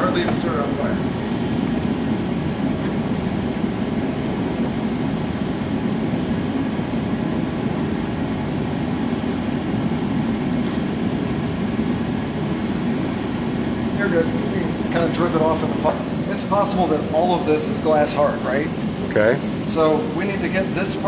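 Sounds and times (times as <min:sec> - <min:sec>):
gas burner rushing: 0:00.0 - 0:21.0.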